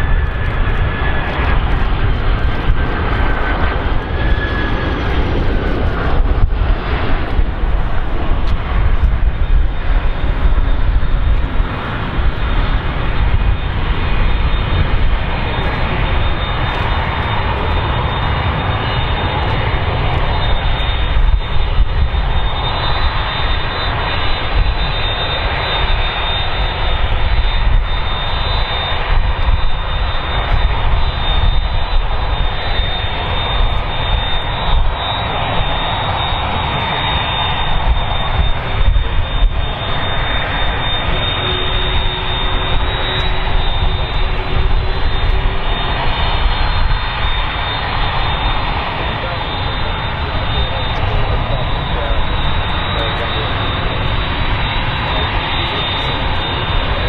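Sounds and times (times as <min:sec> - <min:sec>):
jet rumble: 0:00.0 - 0:57.0.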